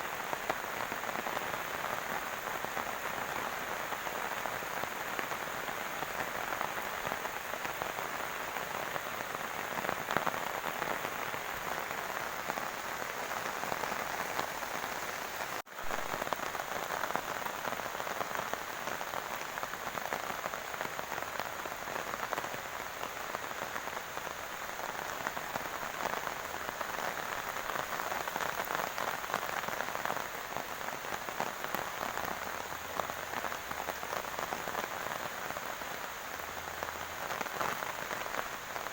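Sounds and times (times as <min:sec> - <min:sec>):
heavy rain on grass: 0:00.0 - 0:38.9.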